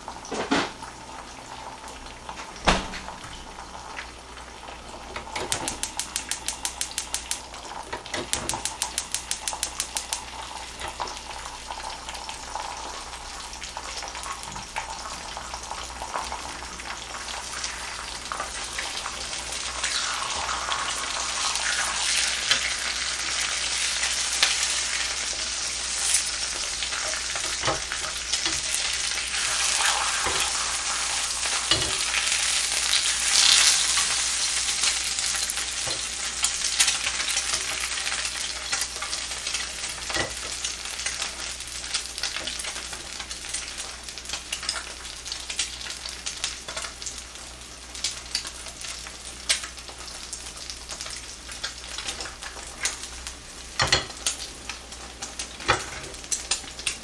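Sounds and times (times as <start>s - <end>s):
eggs sizzling in a pan: 0.0s - 57.0s.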